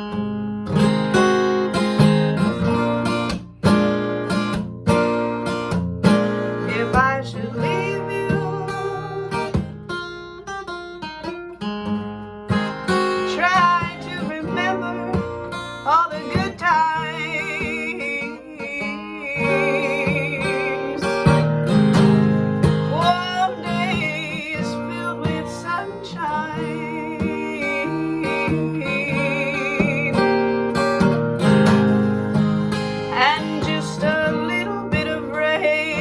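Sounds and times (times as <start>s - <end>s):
acoustic guitar folk music: 0.0s - 36.0s.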